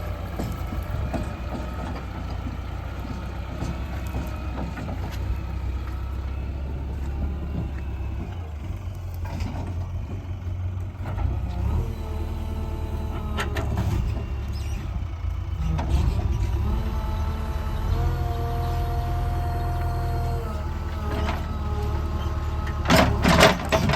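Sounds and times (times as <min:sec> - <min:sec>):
diesel engine running under load: 0:00.0 - 0:23.9.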